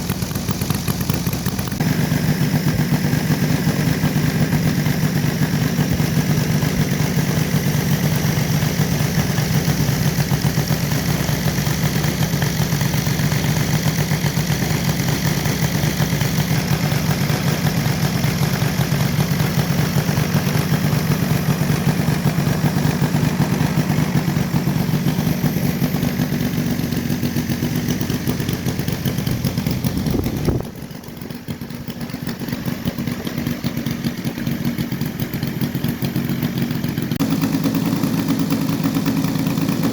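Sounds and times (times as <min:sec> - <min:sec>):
model airplane engine buzzing: 0:00.0 - 0:39.9.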